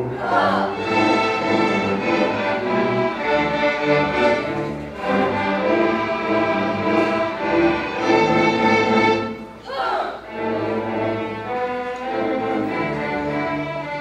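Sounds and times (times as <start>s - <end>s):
string orchestra playing: 0.0s - 14.0s.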